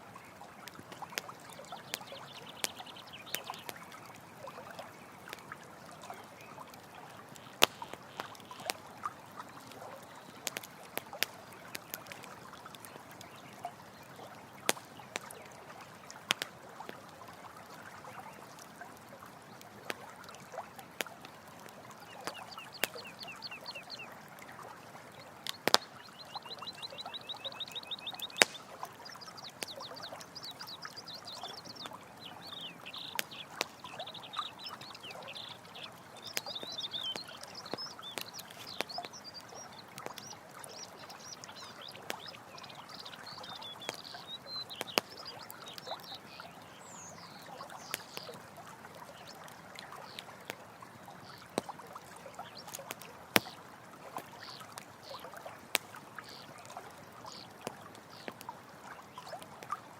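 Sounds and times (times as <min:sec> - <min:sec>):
running water trickling: 0:00.0 - 0:59.9
campfire crackling and popping: 0:00.1 - 0:51.8, 0:52.4 - 0:59.9.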